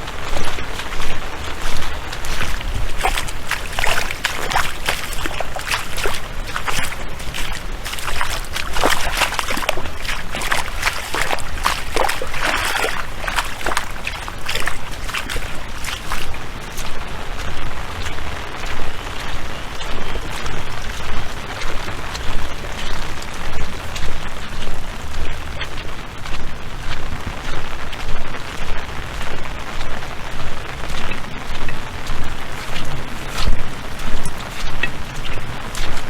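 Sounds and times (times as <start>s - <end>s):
rain and splashing water: 0.0s - 36.0s
sharp close drips: 0.0s - 36.0s
steady low rumble: 0.0s - 36.0s.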